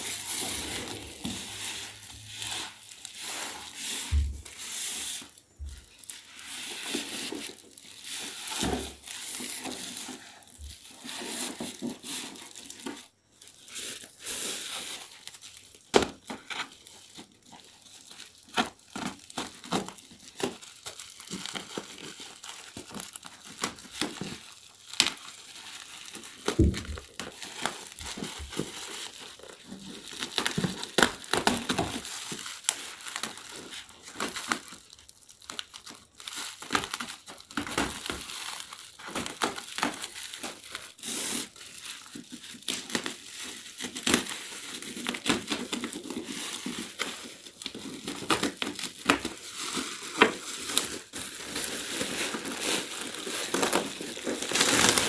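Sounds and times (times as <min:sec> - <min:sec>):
tape tearing: 0:00.0 - 0:05.4, 0:06.0 - 0:55.0
bubble wrap crinkling: 0:00.0 - 0:55.0.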